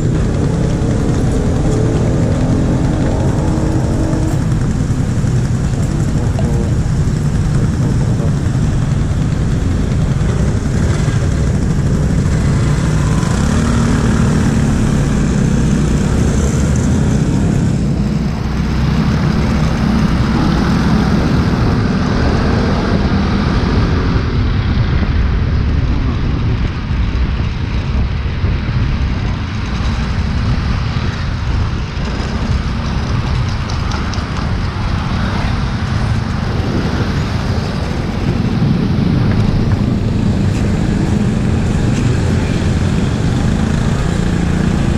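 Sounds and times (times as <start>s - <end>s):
motorcycle engine rumble: 0.0s - 44.9s
road noise: 0.0s - 44.9s.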